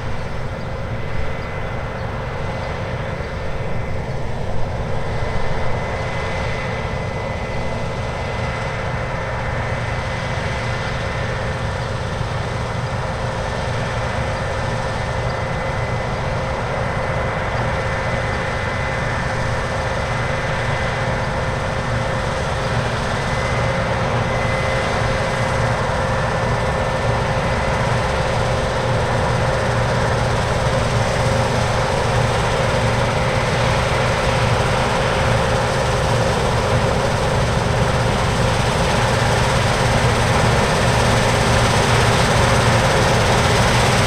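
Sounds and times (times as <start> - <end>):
harvest machinery diesel drone: 0.0 - 44.0.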